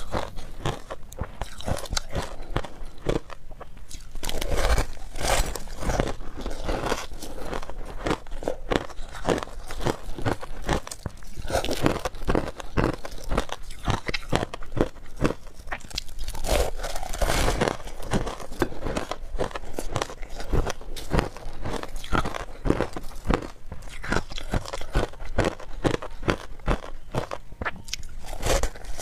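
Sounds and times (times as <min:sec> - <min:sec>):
chewing crunchy shaved ice: 0:00.0 - 0:29.0.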